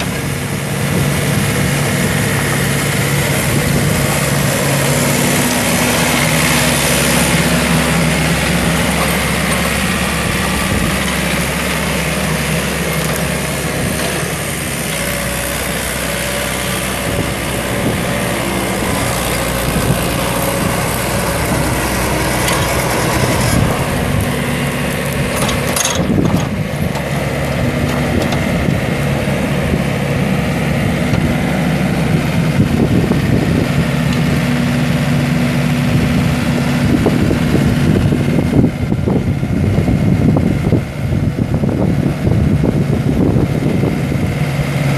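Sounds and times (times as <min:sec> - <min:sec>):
diesel mower engine running: 0:00.0 - 0:44.9.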